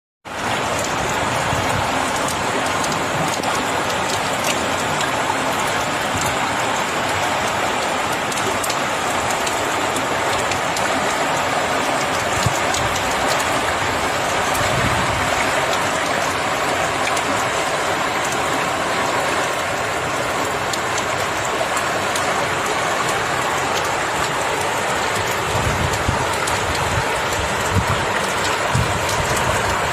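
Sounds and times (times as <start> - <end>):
heavy rain hitting surfaces: 0.3 - 29.9.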